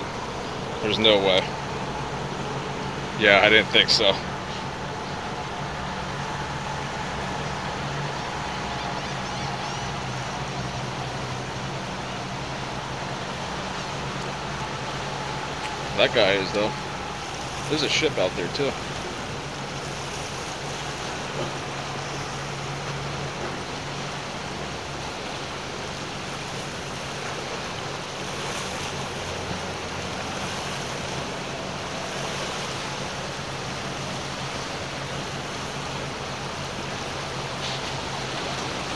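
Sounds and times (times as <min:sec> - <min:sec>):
outboard motor hum: 0:00.0 - 0:38.9
tidal current rushing: 0:00.0 - 0:38.9.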